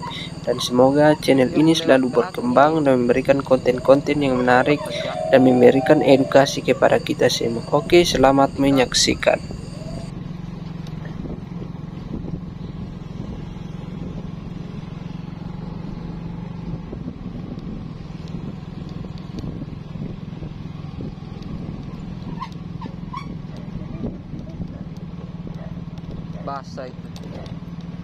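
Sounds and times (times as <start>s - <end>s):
road noise on dirt road: 0.0s - 28.0s
scooter engine humming: 0.0s - 28.0s.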